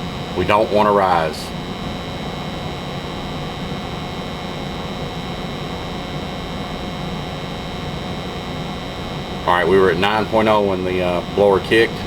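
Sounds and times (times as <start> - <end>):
gas furnace running: 0.0 - 12.0.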